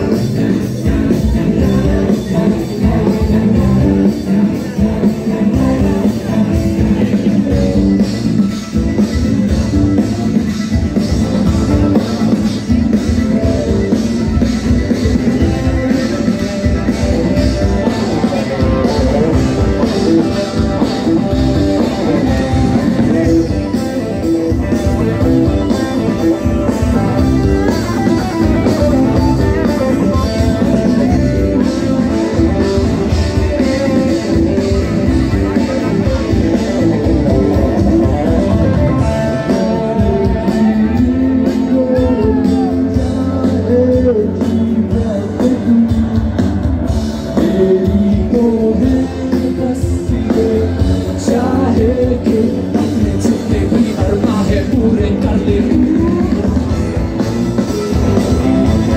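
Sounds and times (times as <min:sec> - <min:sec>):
person singing: 0:00.0 - 0:57.2
rock music: 0:00.0 - 0:58.9.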